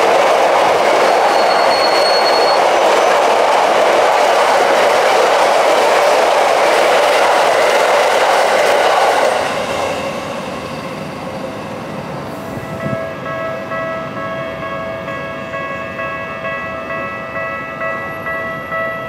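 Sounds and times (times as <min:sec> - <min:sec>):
electric train rumbling past: 0:00.0 - 0:19.0.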